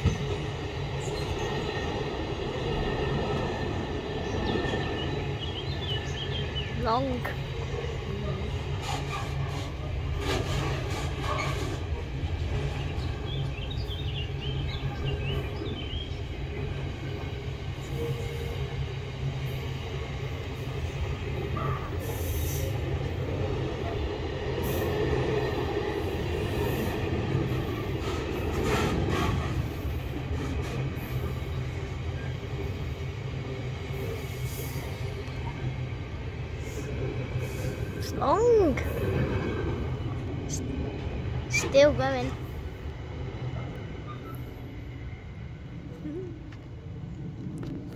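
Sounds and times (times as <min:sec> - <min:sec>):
train rumbling over steel bridge: 0:00.0 - 0:47.9.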